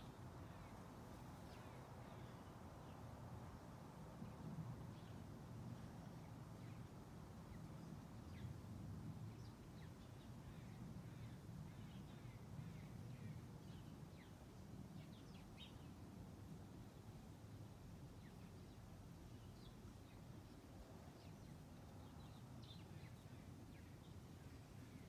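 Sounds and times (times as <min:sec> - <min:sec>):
faint low rumble: 0:00.0 - 0:25.0
songbird chirps: 0:00.0 - 0:25.0.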